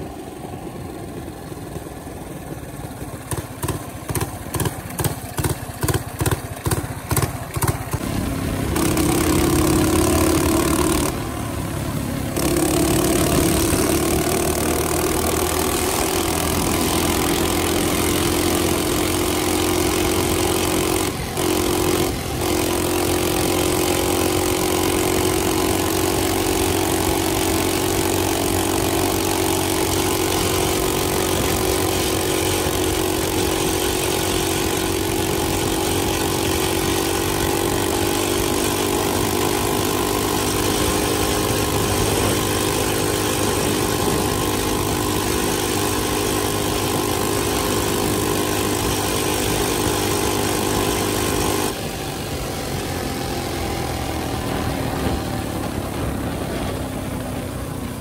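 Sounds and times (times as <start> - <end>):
minibike engine running steadily: 0.0 - 58.0.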